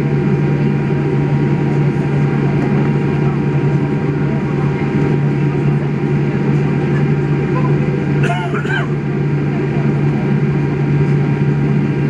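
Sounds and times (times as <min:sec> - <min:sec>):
low engine hum: 0:00.0 - 0:12.0
airplane cabin rushing noise: 0:00.3 - 0:12.0.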